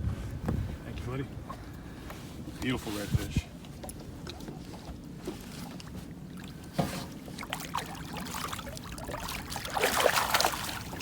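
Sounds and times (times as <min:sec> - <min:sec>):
water sloshing and trickling: 0:01.6 - 0:11.0.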